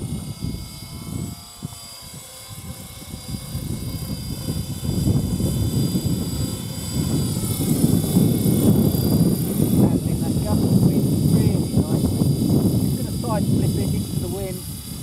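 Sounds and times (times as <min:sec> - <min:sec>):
model helicopter flying: 0:00.0 - 0:15.0.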